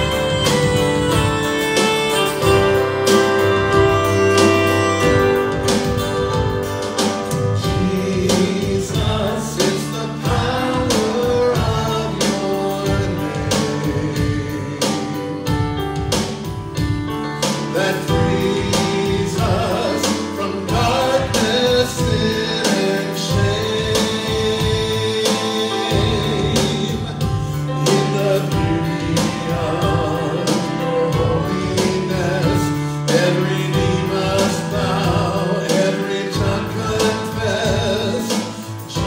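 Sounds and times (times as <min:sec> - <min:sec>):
people singing: 0:00.0 - 0:15.6, 0:17.4 - 0:39.0
worship band playing: 0:00.0 - 0:39.0.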